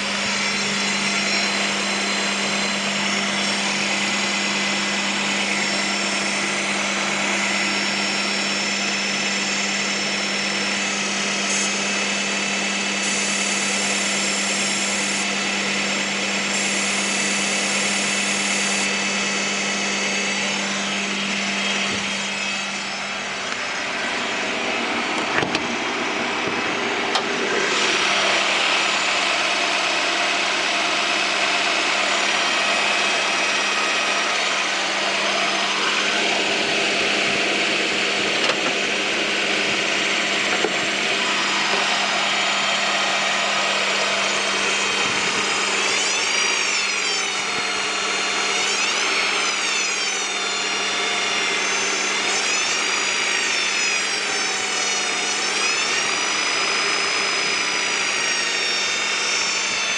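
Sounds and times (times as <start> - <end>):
car engine with high-pitched whine: 0.0 - 59.9.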